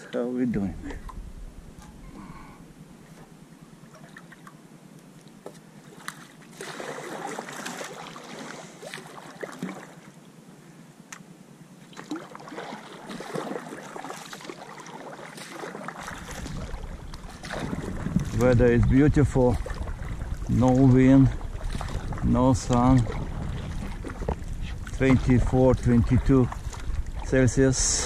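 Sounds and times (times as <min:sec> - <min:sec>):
paddle strokes splashing: 0:03.0 - 0:10.2, 0:11.8 - 0:28.0.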